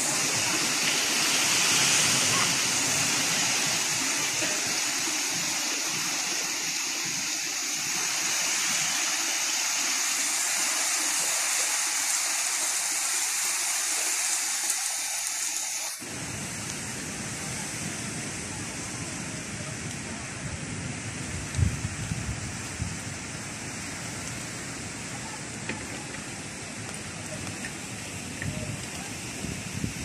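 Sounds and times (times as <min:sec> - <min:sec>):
heavy rain on foliage: 0:00.0 - 0:30.0.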